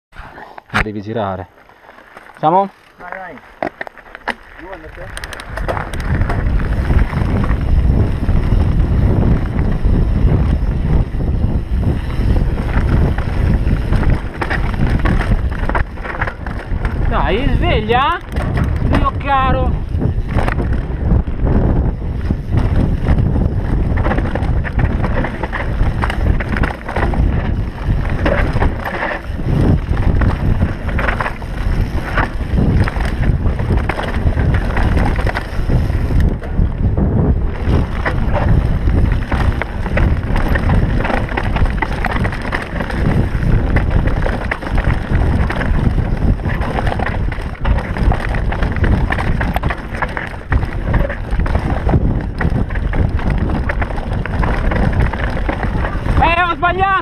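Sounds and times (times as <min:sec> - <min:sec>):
mountain bike clattering over rocks: 0:00.8 - 0:57.0
wind buffeting microphone: 0:04.4 - 0:57.0.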